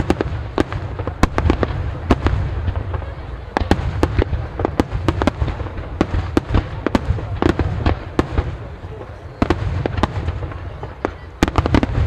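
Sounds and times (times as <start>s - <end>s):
fireworks cracking and booming: 0.0s - 12.0s.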